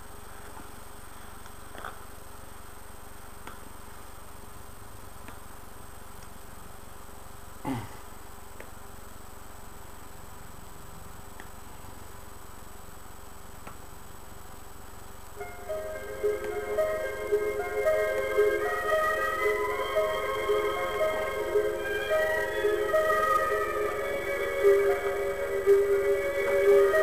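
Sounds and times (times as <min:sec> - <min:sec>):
faint hum: 0:00.0 - 0:27.0
low hiss: 0:00.0 - 0:27.0.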